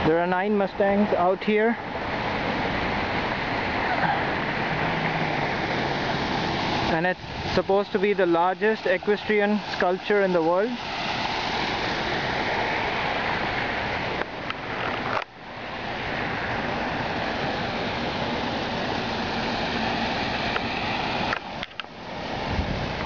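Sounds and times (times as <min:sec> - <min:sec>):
fountain splashing into pool: 0:02.6 - 0:23.0.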